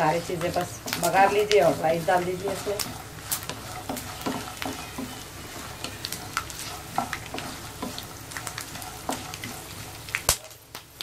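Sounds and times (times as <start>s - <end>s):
spatula scraping a pan: 0.0s - 10.2s
peanuts sizzling in hot oil: 0.0s - 11.0s.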